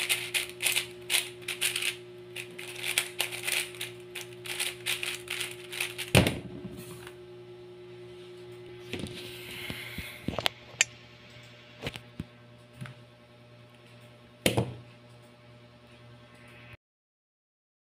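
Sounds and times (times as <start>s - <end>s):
faint steady hum: 0.0s - 16.8s.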